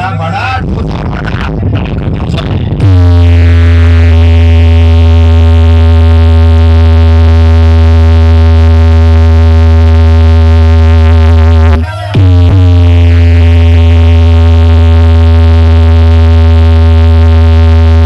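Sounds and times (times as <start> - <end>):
heavy bass: 0.0 - 18.0.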